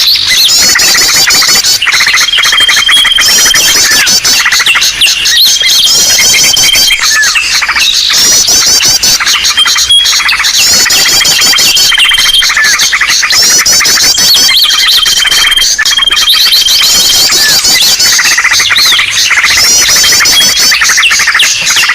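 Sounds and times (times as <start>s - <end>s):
chorus of small birds chirping: 0.0s - 21.9s
high level whistle: 0.0s - 21.9s.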